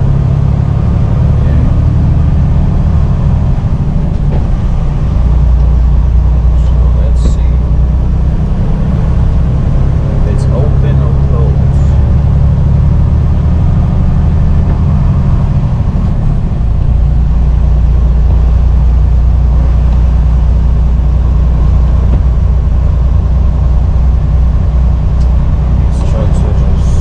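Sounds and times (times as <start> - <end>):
truck diesel engine drone: 0.0 - 27.0.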